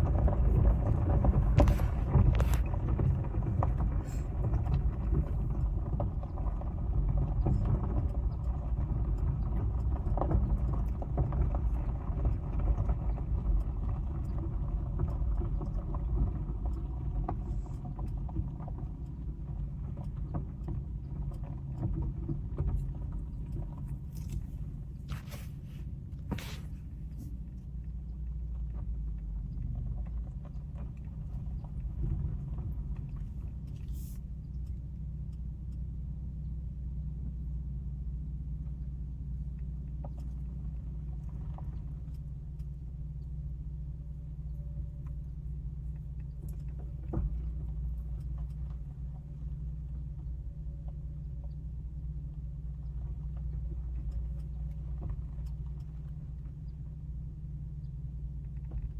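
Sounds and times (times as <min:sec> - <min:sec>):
faint clicks and knocks: 0:00.0 - 0:35.8, 0:38.6 - 0:43.5, 0:44.4 - 0:51.8, 0:52.7 - 0:57.1, 0:57.7 - 0:58.9
car cabin low rumble: 0:00.0 - 0:58.9.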